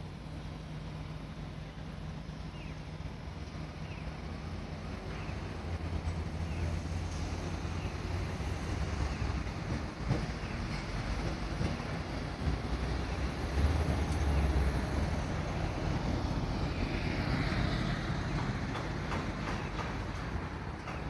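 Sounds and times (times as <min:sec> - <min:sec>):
cars and buses passing: 0:00.0 - 0:21.0.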